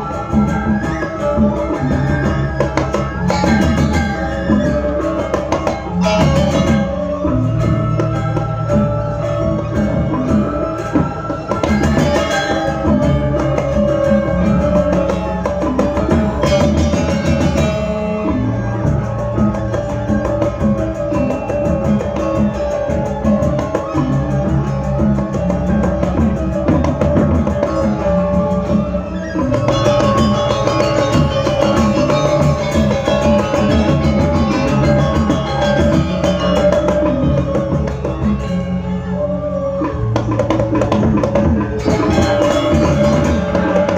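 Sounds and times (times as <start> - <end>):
drums: 0.0 - 43.9
gamelan ensemble playing: 0.0 - 43.9.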